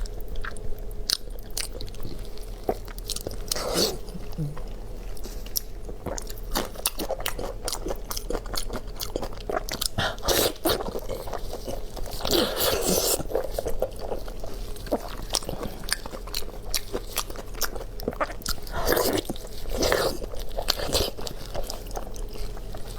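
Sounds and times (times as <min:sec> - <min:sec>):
crunchy chewing: 0:00.0 - 0:22.9.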